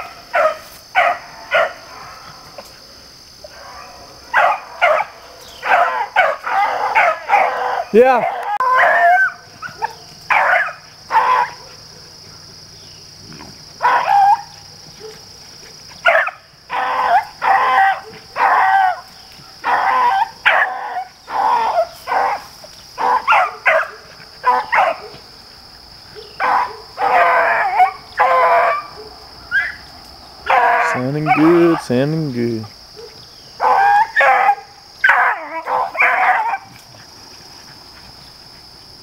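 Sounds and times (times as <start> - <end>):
hounds baying: 0.0 - 32.1, 32.8 - 39.0.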